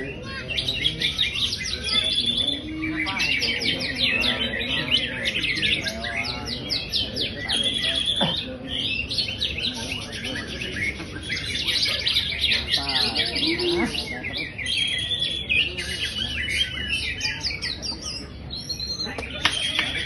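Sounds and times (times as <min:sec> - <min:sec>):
bird chirping and trilling: 0:00.0 - 0:20.0.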